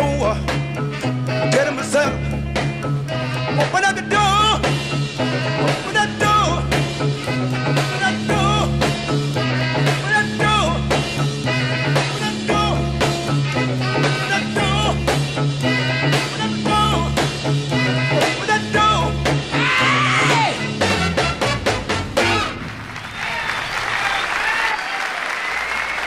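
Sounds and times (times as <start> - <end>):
funk band playing: 0.0 - 23.9.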